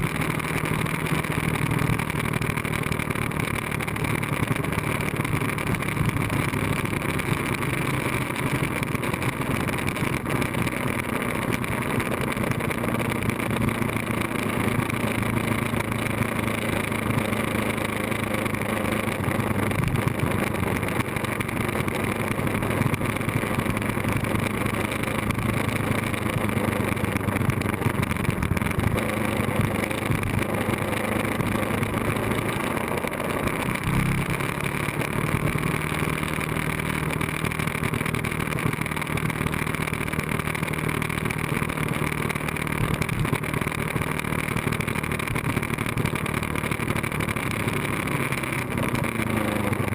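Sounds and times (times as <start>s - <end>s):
motorcycle engine cruising: 0.0s - 49.9s
wind and road noise: 0.0s - 49.9s.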